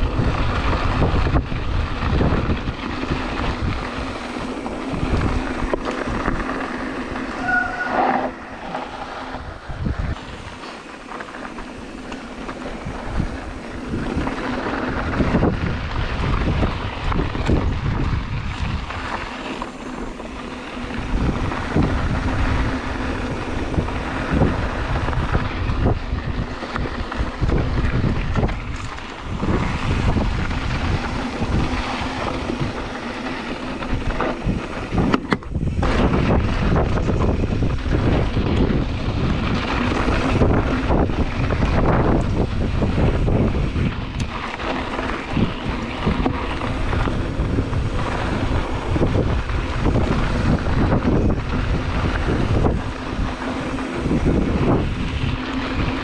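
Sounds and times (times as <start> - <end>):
bike knocks and rattles: 0.0 - 56.0
bike tyres rolling on dirt: 0.0 - 56.0
wind buffeting microphone: 0.0 - 56.0.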